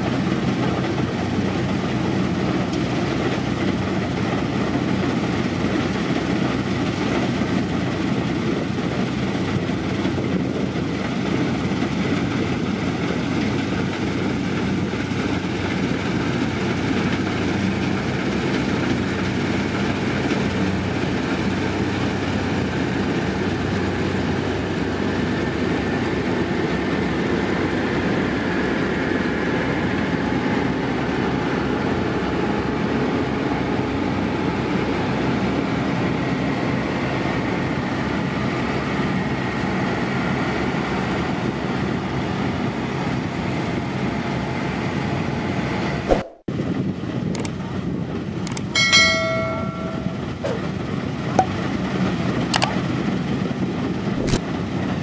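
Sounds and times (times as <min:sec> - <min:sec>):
combine harvester drone: 0:00.0 - 0:55.0.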